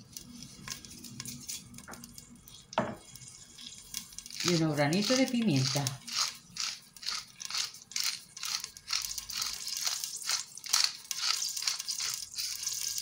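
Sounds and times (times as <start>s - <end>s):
peppercorns being ground: 0.0s - 13.0s.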